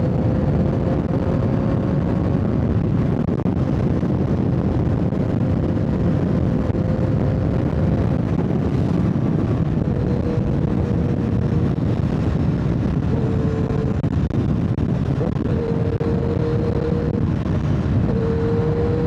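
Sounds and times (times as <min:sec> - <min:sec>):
motorcycle engine: 0:00.0 - 0:19.0
wind rushing on microphone: 0:00.0 - 0:19.0.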